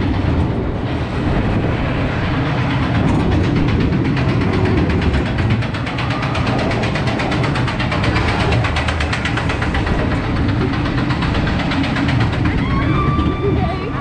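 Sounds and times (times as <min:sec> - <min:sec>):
coaster car rattling on steel track: 0:00.0 - 0:14.0
low rumble: 0:00.0 - 0:14.0.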